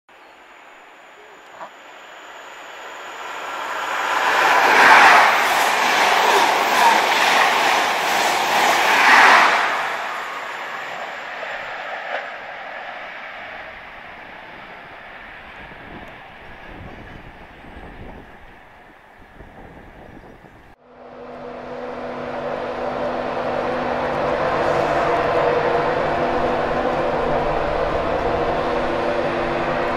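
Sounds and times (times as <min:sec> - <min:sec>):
train passing at speed: 0:01.8 - 0:29.9.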